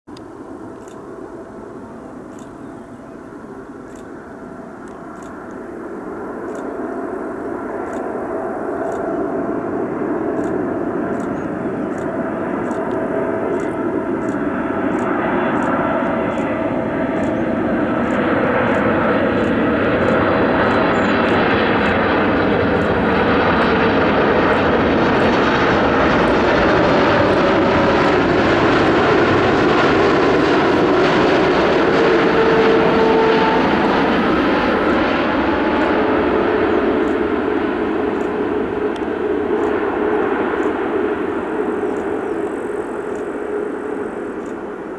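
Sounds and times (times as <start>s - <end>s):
jet engines rumbling with whine: 0.1s - 44.9s.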